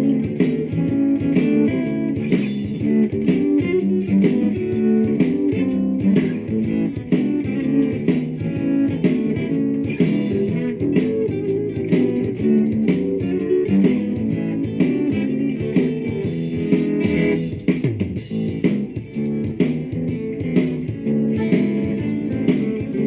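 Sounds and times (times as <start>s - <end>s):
electric guitar blues loop: 0.0s - 23.0s.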